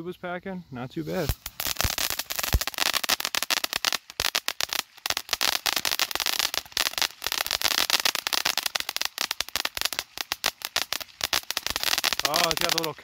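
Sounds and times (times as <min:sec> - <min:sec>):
firework crackling: 0:01.0 - 0:13.0
fountain firework hissing: 0:01.1 - 0:13.0.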